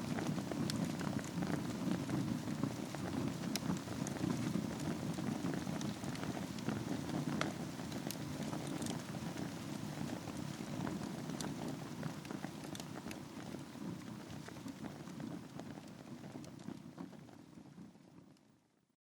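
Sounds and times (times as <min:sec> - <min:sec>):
logs crackling and popping: 0:00.0 - 0:18.0
fire burning: 0:00.0 - 0:18.4.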